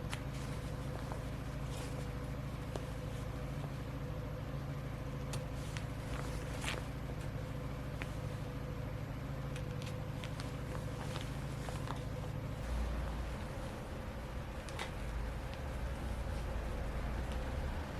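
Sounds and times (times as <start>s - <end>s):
mechanical hum: 0.0s - 17.9s.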